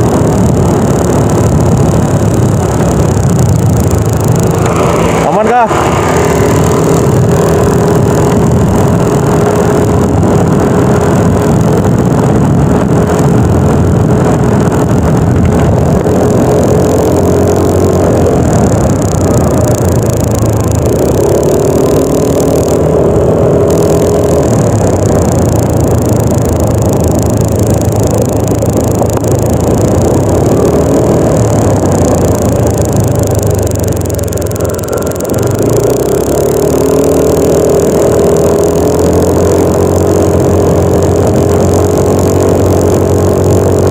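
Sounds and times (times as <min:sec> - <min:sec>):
scooter engine running: 0:00.0 - 0:43.9
wind rushing: 0:00.0 - 0:43.9.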